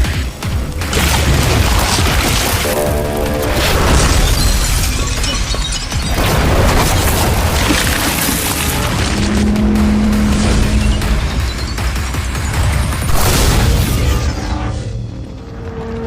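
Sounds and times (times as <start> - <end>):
booming impacts and explosions: 0.0 - 16.0
dramatic soundtrack music: 0.0 - 16.0.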